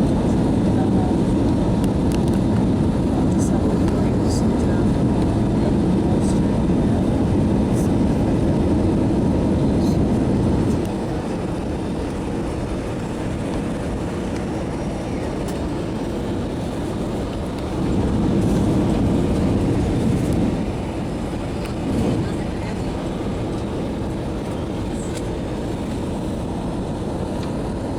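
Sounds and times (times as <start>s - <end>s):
jet engine cabin rumble: 0.0s - 27.9s.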